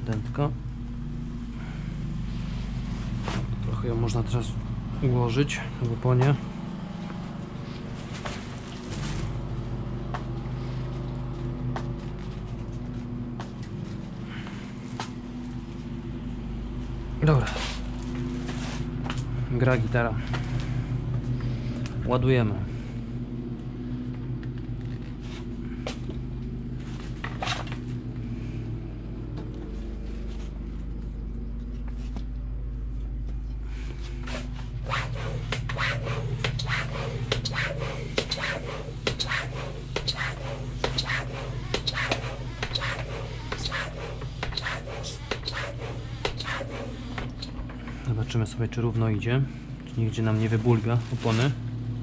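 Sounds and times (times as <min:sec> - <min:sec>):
electric air compressor running: 0:00.8 - 0:29.1, 0:33.8 - 0:48.1.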